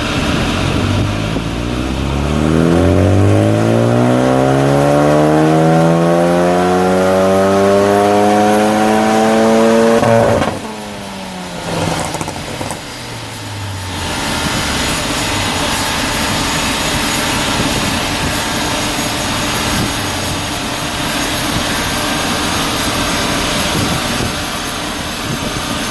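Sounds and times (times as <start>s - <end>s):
large cooling fan roaring: 0.0s - 25.9s
turbo car engine at low revs: 0.0s - 25.9s.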